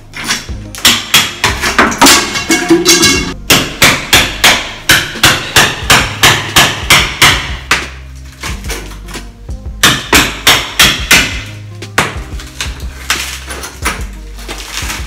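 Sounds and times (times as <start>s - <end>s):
hammer chipping ceramic tile: 0.2s - 8.9s, 9.8s - 15.0s.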